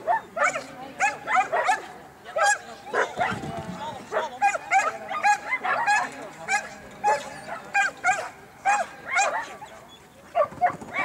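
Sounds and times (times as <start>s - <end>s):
dog yipping: 0.0s - 3.4s, 4.1s - 9.7s.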